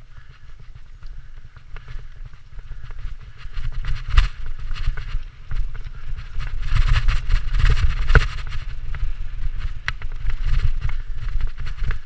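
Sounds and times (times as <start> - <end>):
bike rattling over bumps: 0.0 - 12.0
bike tyre noise on dirt: 0.0 - 12.0
wind buffeting microphone: 0.0 - 12.0.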